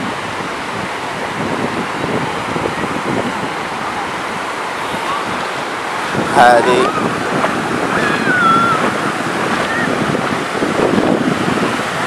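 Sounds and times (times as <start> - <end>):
waves breaking on a beach: 0.0 - 12.0
wind buffeting microphone: 0.0 - 12.0.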